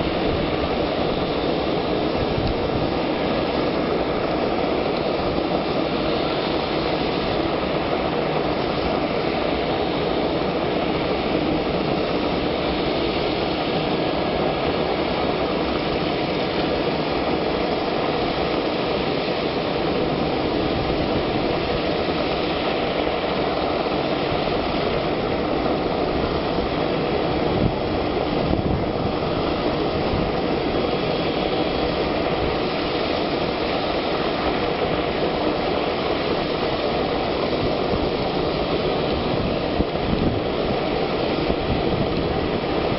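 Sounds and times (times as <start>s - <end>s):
jet engines idling: 0.0s - 42.9s.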